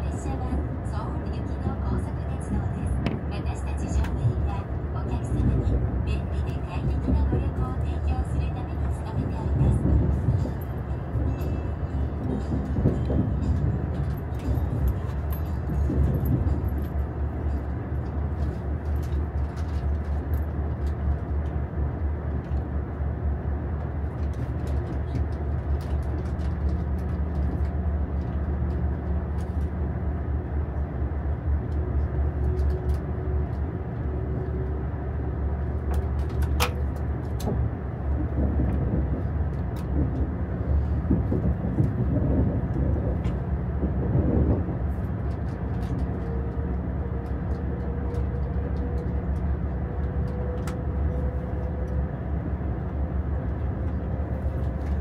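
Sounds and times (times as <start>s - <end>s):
train cabin low rumble: 0.0s - 55.0s.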